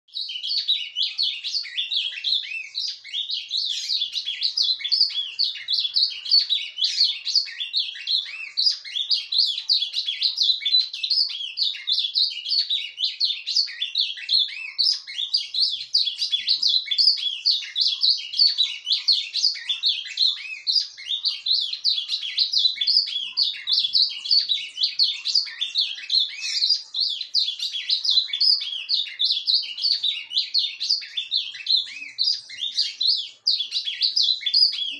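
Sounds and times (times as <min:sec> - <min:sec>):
bird warbling song: 0:00.1 - 0:34.9.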